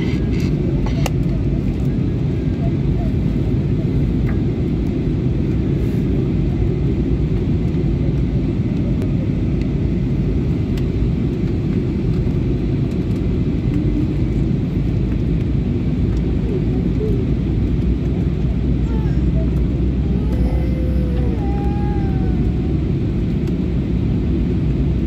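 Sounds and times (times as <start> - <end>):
airliner engines rumbling in cabin: 0.0 - 25.0.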